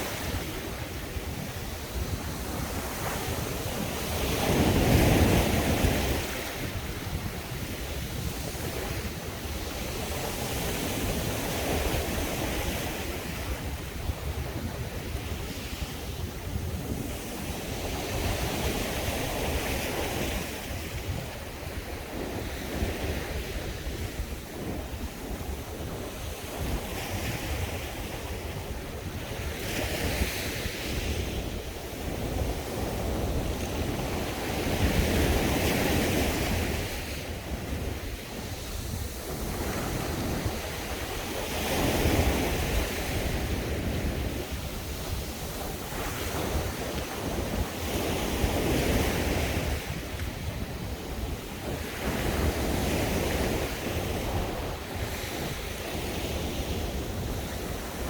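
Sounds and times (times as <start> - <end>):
waves breaking on beach: 0.0 - 58.0
wind buffeting microphone: 0.0 - 58.0.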